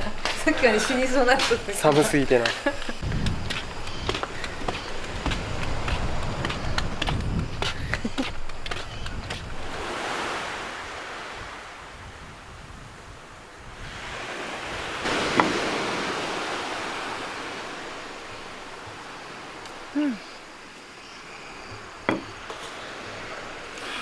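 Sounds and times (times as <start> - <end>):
sea waves washing onto beach: 0.0 - 24.0.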